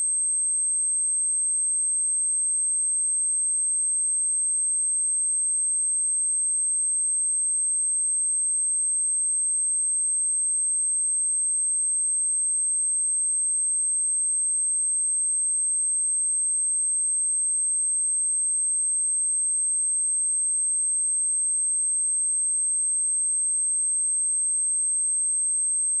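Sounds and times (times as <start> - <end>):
high-pitched sine-wave test tone: 0.0 - 26.0.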